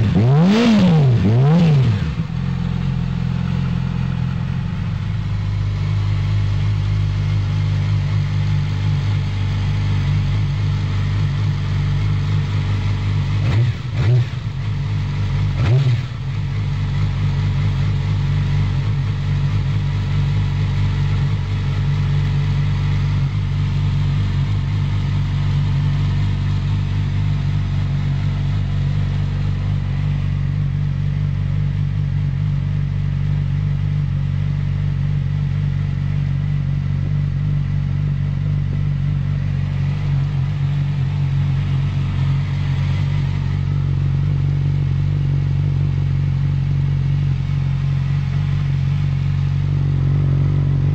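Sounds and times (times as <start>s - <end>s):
motorcycle engine idling: 0.0s - 50.9s.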